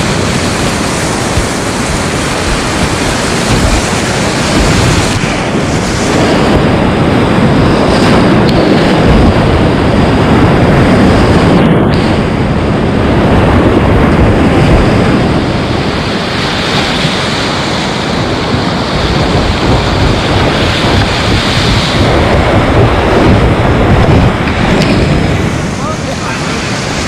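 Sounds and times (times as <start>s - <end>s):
whitewater rapids rushing: 0.0s - 9.6s, 14.6s - 27.0s
water splashing over kayak: 0.0s - 27.0s.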